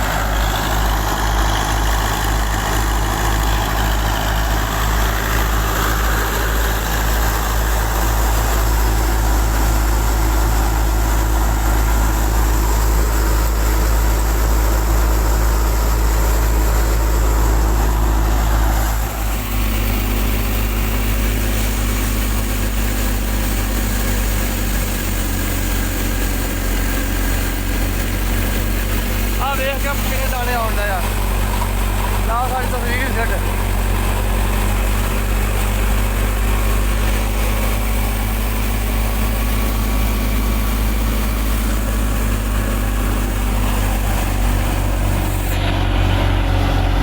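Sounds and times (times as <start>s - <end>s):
tractor diesel engine and thresher drone: 0.0s - 47.0s.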